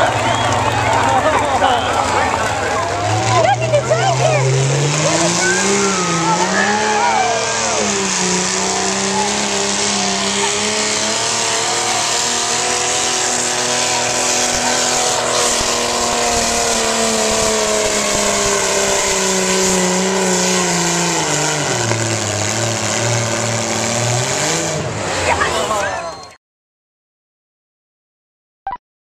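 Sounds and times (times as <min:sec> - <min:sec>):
tractor engine running flat out: 0:00.0 - 0:26.2.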